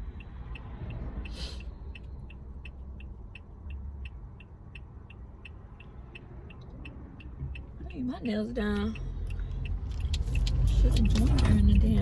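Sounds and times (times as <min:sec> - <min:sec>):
car rumbling on road: 0:00.0 - 0:12.0
turn signal ticking: 0:00.0 - 0:12.0.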